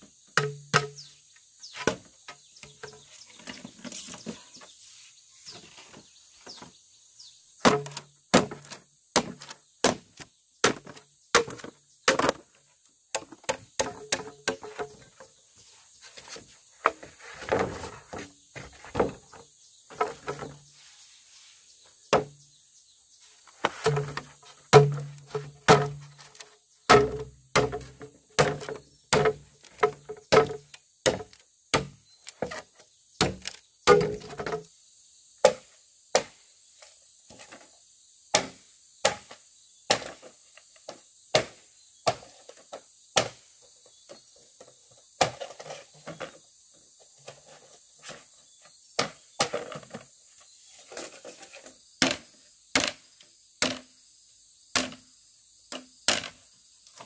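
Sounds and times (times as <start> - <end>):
high insect drone: 0.0 - 57.0.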